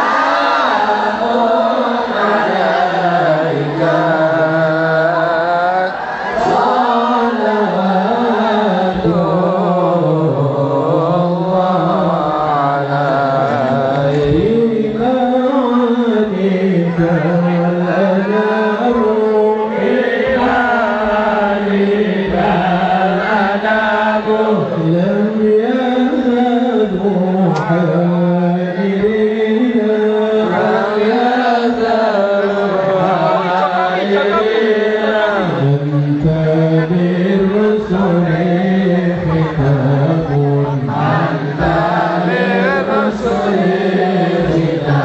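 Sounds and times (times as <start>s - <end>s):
person chanting sung melody: 0.0s - 45.0s.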